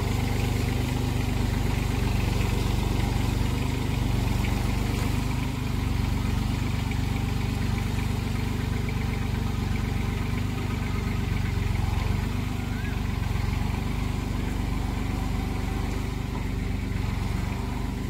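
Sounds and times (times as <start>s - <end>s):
rotavator tilling soil: 0.0s - 18.0s
tractor engine under load: 0.0s - 18.0s.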